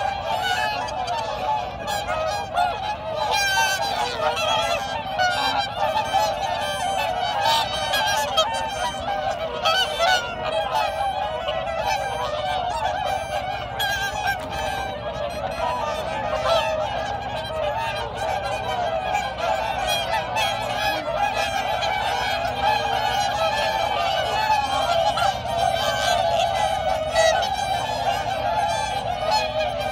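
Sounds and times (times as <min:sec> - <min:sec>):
swans honking: 0:00.0 - 0:29.9.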